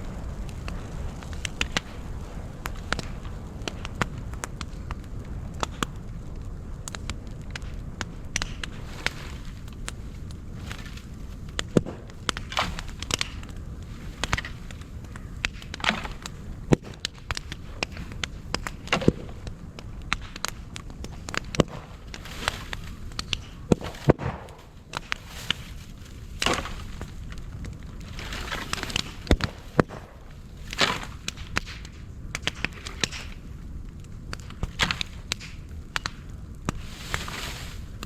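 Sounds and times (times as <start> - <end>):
bamboo fire crackling and popping: 0.0 - 38.0.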